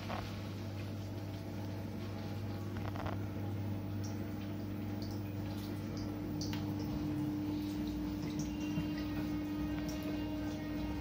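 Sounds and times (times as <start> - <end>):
washing machine humming: 0.0 - 11.0
water dripping and splashing: 0.0 - 11.0.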